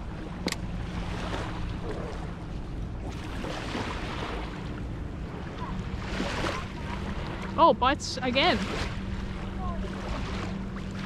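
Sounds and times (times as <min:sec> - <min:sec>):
water lapping at shore: 0:00.0 - 0:11.0.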